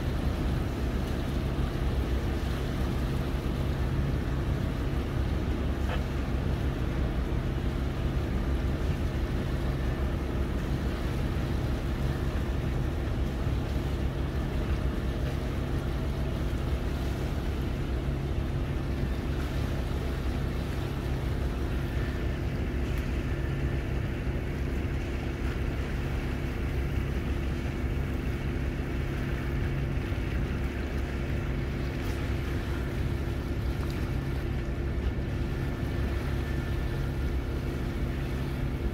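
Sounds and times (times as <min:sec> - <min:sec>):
low engine drone: 0:00.0 - 0:38.9
water noise: 0:00.0 - 0:38.9
wind: 0:00.0 - 0:38.9.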